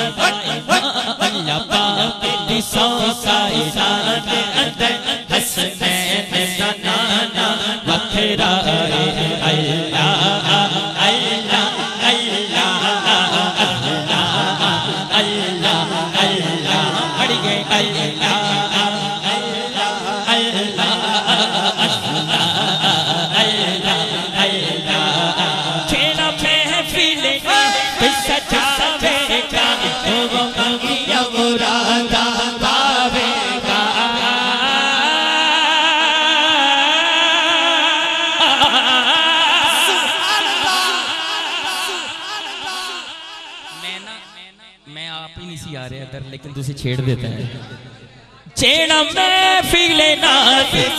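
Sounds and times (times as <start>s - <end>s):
rhythmic chanted backing: 0.0s - 45.1s
man singing through pa: 0.0s - 45.8s, 48.5s - 50.9s.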